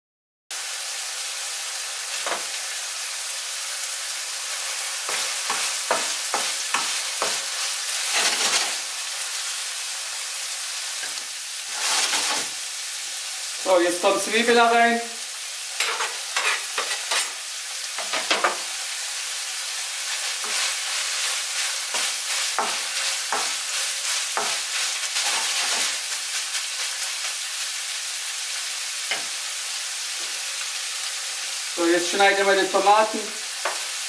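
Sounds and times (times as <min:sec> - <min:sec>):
food sizzling in a frying pan: 0:00.5 - 0:34.0.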